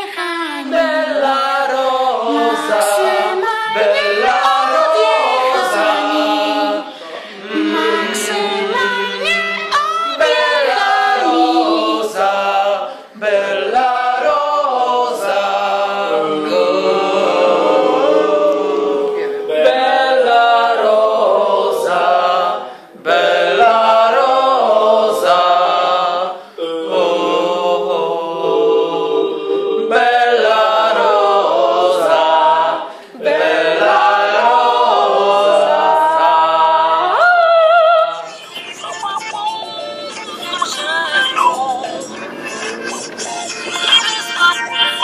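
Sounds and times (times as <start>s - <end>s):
group singing a cappella: 0.0s - 38.4s.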